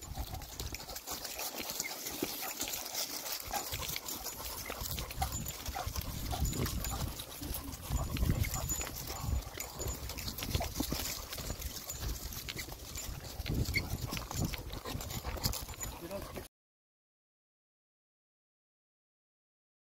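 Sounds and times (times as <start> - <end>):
dogs scuffing steps: 0.0 - 16.5.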